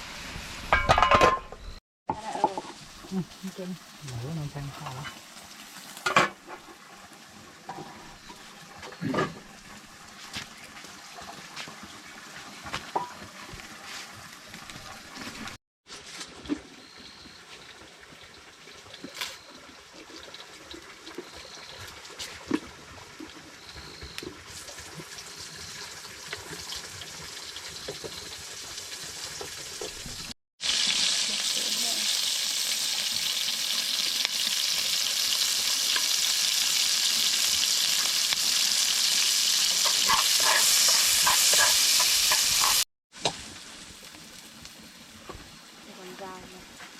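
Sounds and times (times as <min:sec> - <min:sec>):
food sizzling in hot oil: 0:00.0 - 0:01.3, 0:02.1 - 0:15.6, 0:16.8 - 0:46.9.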